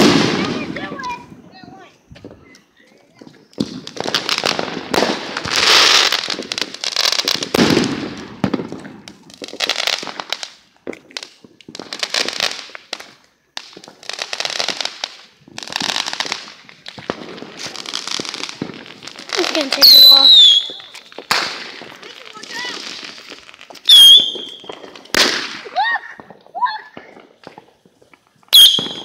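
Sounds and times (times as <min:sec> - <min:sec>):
firecrackers crackling: 0:00.0 - 0:29.0.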